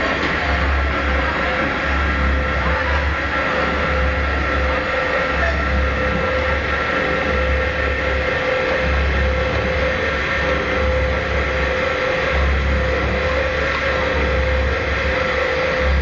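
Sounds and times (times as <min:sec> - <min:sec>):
blades kneading deep throb: 0:00.0 - 0:16.0
mixer motor and gear hum: 0:00.0 - 0:16.0.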